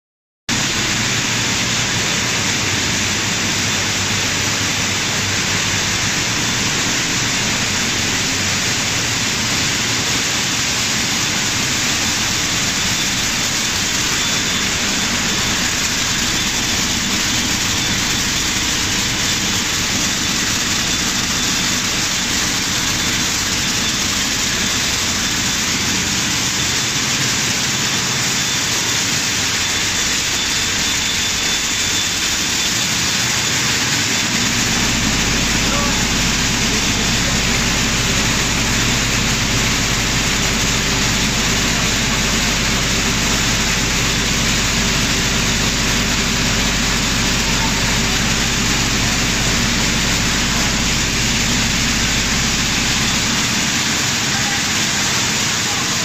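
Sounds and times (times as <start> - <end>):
conveyor belts and fans hissing: 0.5 - 56.0.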